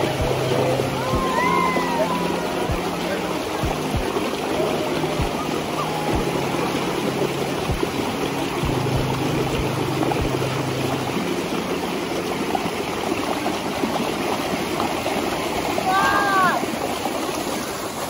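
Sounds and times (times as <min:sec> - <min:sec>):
water rushing down a channel: 0:00.0 - 0:18.0.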